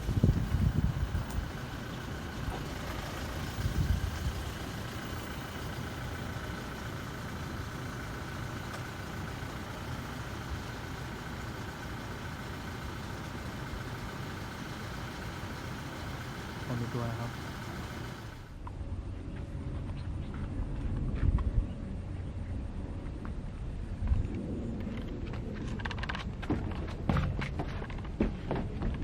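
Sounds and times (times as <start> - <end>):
faint steady whine: 0.0 - 24.6
motor idling with low rumble: 0.0 - 29.0.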